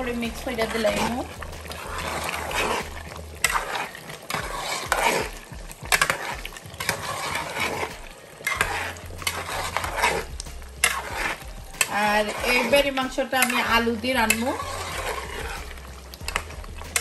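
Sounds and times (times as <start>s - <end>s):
gravy sizzling: 0.0s - 17.0s
metal spoon scraping pot: 0.0s - 17.0s.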